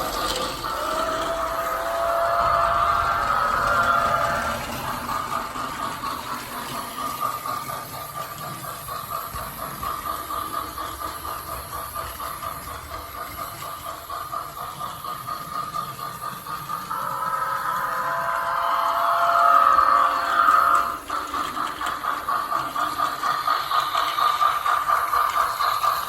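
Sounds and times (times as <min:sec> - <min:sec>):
recorded steam engine chuffing: 0:00.0 - 0:26.0.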